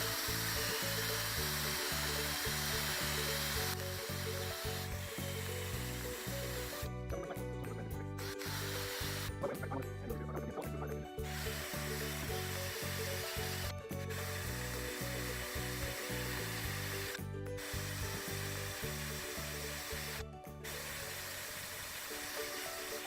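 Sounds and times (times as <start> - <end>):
wire brush drill scouring metal: 0.0 - 7.2, 8.1 - 9.7, 11.2 - 23.0
background music: 0.0 - 23.0.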